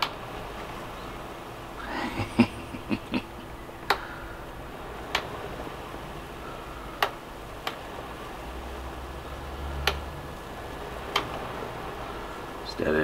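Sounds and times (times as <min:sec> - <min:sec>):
kettle heating rumble: 0:00.0 - 0:13.0.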